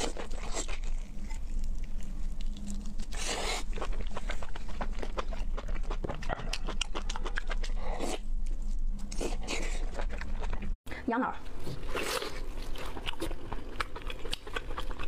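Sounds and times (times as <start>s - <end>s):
chewing and lip-smacking: 0.0s - 10.8s, 11.8s - 15.0s.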